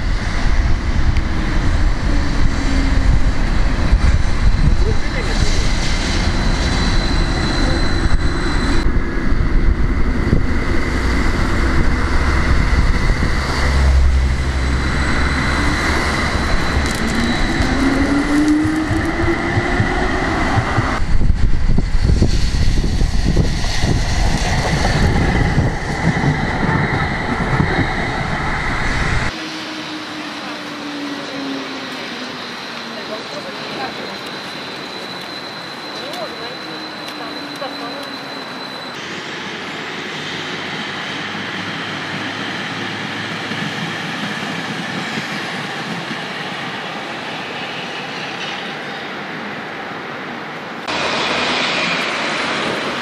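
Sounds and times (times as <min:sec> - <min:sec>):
street sound: 0:00.0 - 0:53.0
tram passing: 0:00.0 - 0:53.0.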